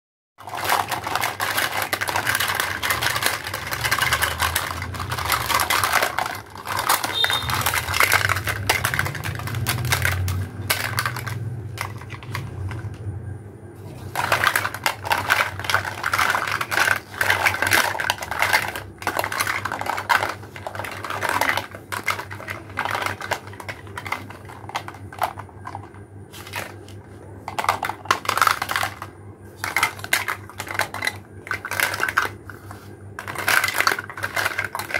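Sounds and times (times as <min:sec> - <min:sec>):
plastic toys clattering: 0:00.4 - 0:13.1, 0:13.8 - 0:34.9.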